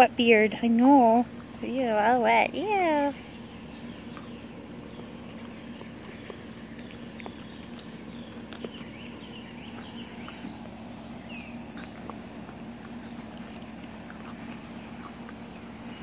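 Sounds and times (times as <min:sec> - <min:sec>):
birds chirping: 0:00.0 - 0:16.0
steady low hum: 0:00.0 - 0:16.0.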